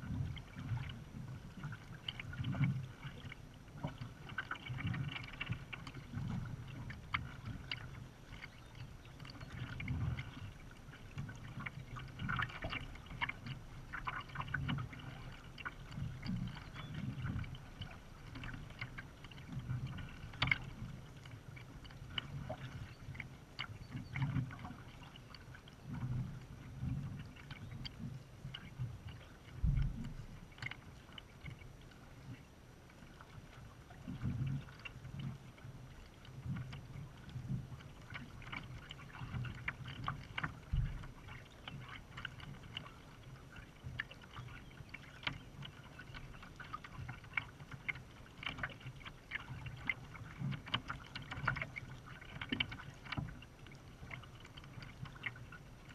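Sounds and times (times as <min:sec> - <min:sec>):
water lapping against kayak: 0:00.0 - 0:55.9
small splashes and drips: 0:00.1 - 0:26.6, 0:27.2 - 0:55.9.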